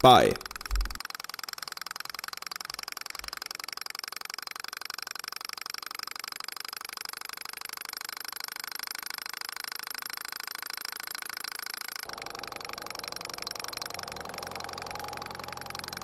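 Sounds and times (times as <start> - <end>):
small engine mechanical ticking: 0.0 - 16.0.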